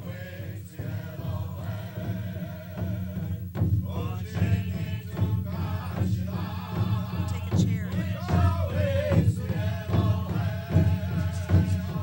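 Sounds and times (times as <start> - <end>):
singing or chanting: 0.0 - 12.0
steady low hum: 0.0 - 12.0.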